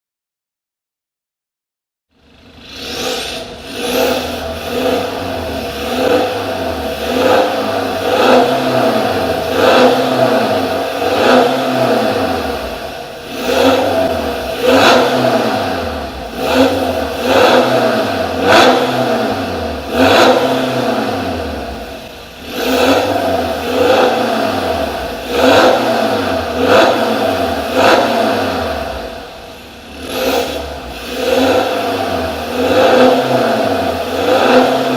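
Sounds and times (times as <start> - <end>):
diesel engine throttle blips: 2.5 - 34.9.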